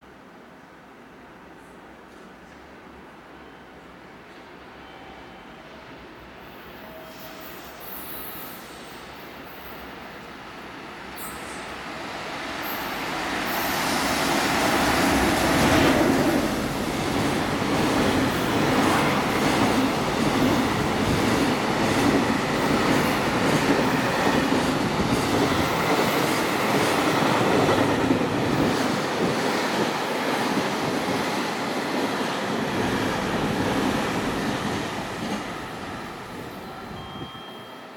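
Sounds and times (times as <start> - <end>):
electric locomotive passing: 4.8 - 37.9.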